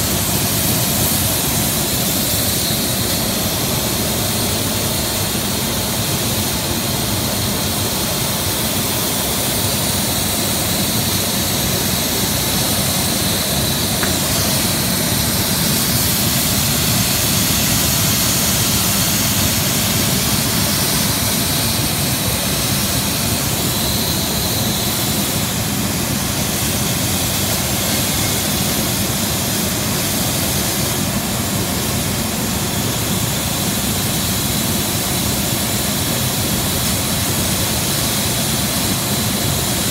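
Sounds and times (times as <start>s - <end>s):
fog machine blasting air: 0.0s - 39.9s.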